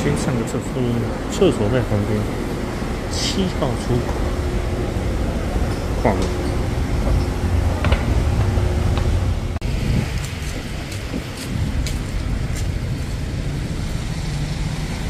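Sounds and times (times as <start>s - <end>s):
passing cars rumble: 0.0s - 15.0s.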